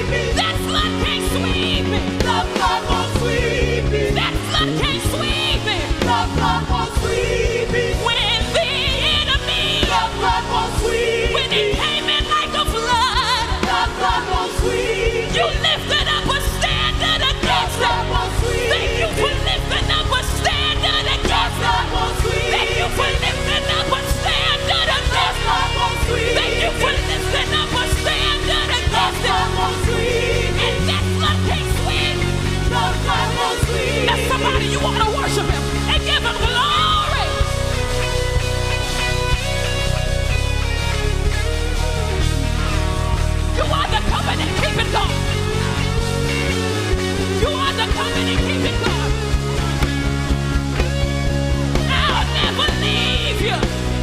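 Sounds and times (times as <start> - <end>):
band with steady bass line: 0.0 - 54.0
people singing with vibrato: 0.0 - 54.0.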